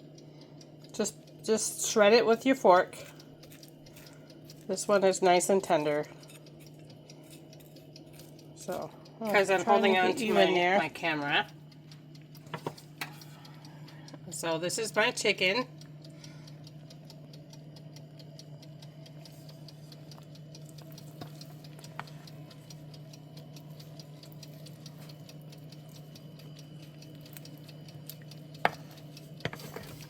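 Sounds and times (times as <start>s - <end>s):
low steady hum: 0.0s - 30.0s
mechanical kitchen timer ticking: 0.0s - 30.0s.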